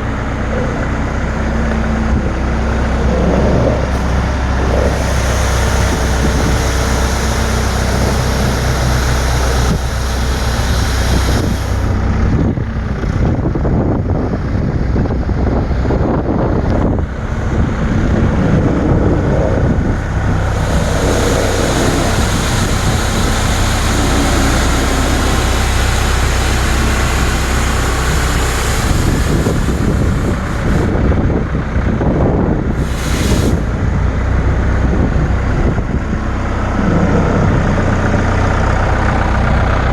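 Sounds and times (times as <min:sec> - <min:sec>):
loud rushing noise: 0:00.0 - 0:13.2, 0:15.6 - 0:39.8
machine engine humming: 0:00.0 - 0:39.9.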